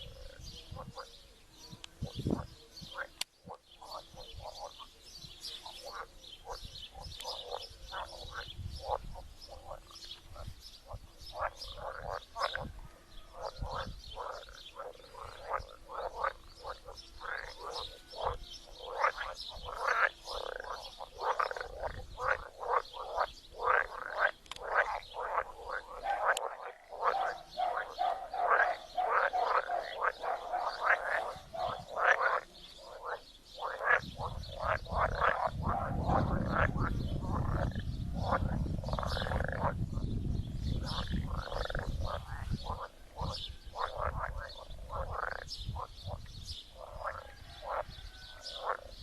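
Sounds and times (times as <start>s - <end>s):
frogs croaking: 0.0s - 5.0s, 5.6s - 49.0s.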